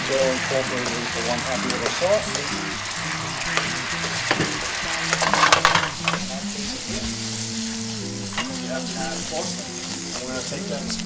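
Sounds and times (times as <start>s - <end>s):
sauce sizzling in a frying pan: 0.0s - 11.0s
stirring in a pan: 0.0s - 11.0s.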